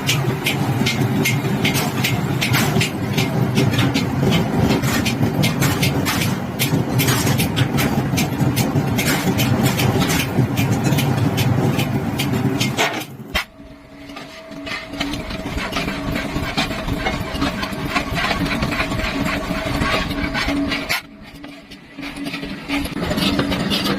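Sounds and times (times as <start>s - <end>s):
metalworking machinery humming: 0.0s - 23.9s
sharp clicks and knocks: 0.0s - 23.9s.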